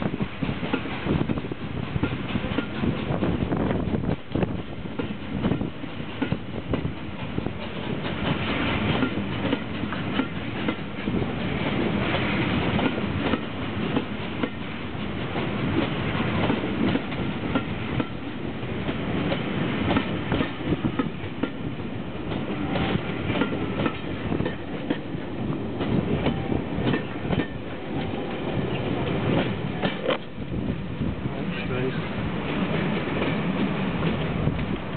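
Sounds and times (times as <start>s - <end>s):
train wheels clicking over rail joints: 0.0s - 34.9s.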